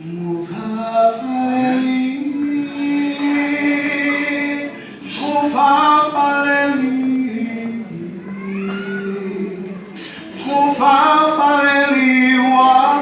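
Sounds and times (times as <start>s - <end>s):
man singing gospel song: 0.0s - 13.0s.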